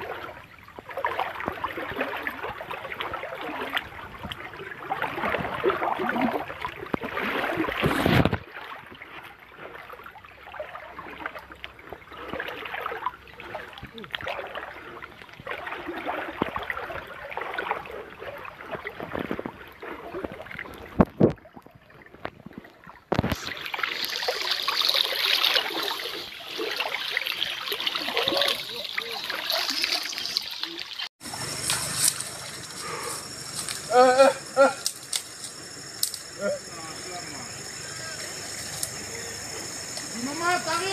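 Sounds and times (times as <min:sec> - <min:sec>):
water sloshing from wading: 0:00.0 - 0:40.9.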